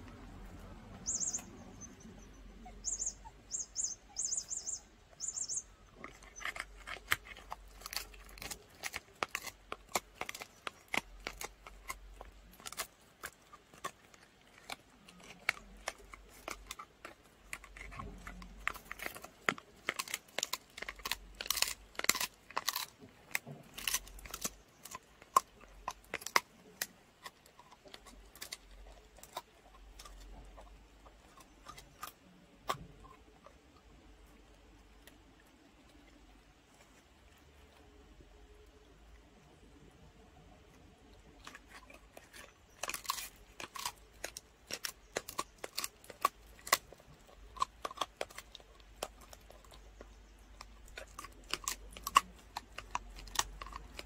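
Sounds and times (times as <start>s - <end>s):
dog crunching a chew: 2.8s - 38.5s, 41.1s - 54.0s.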